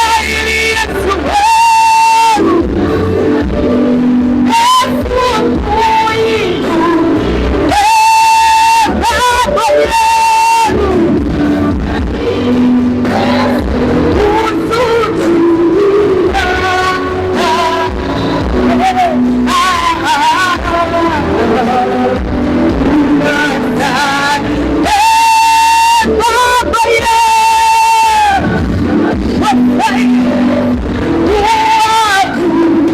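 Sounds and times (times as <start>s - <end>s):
church worship music with singing: 0.0s - 32.9s.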